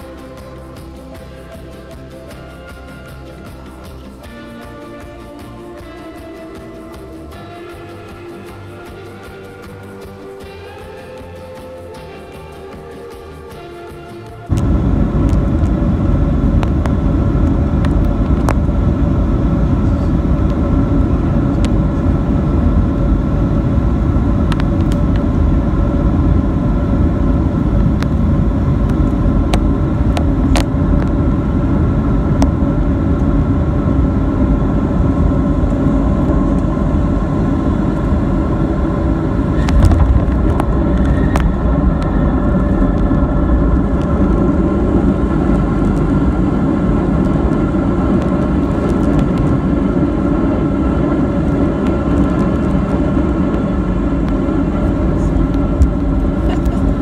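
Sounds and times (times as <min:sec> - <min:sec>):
engine tones: 0:00.0 - 0:57.0
jet engine and airflow roar: 0:00.0 - 0:57.0.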